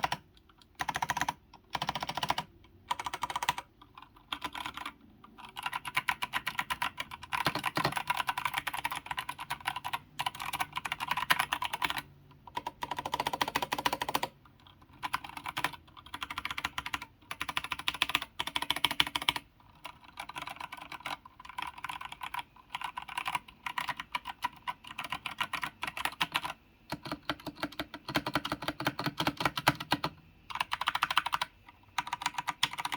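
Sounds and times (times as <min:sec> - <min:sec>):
fast typing on mechanical keyboard: 0:00.0 - 0:32.9.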